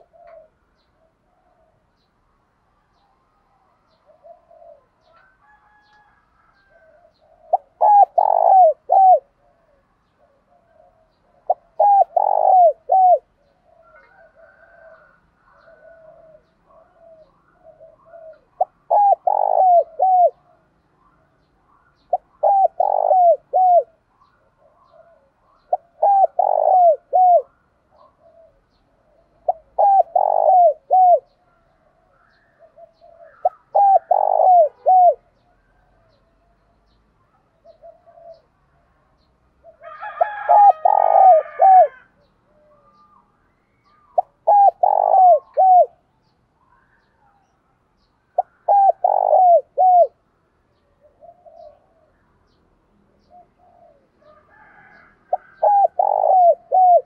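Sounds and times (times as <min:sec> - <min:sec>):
dove cooing: 0:00.0 - 0:02.1, 0:02.8 - 0:38.9, 0:39.6 - 0:43.2, 0:43.8 - 0:47.5, 0:48.3 - 0:57.0.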